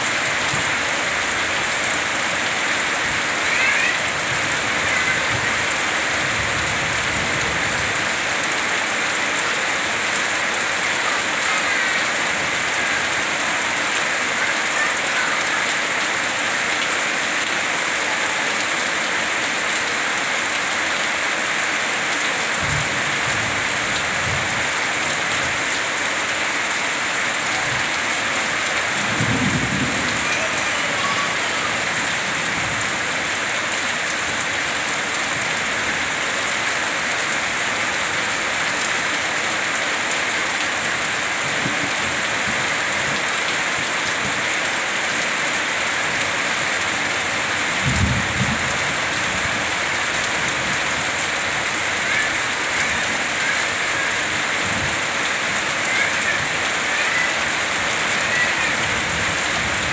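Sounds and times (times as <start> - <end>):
heavy rain on a roof: 0.0 - 59.9
water pouring off roof: 0.1 - 59.9.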